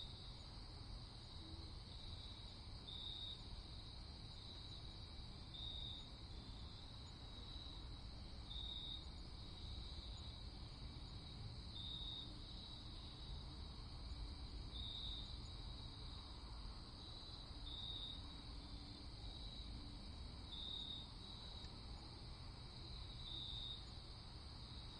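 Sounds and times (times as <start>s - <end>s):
crickets trilling: 0.0s - 24.9s.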